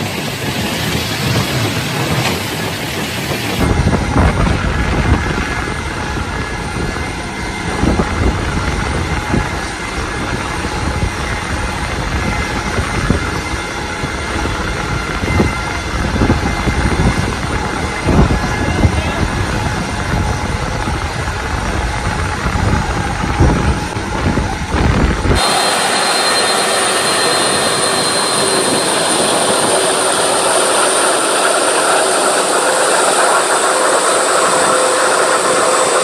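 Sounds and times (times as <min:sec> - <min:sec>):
aircraft engines rumbling: 0:00.0 - 0:36.0.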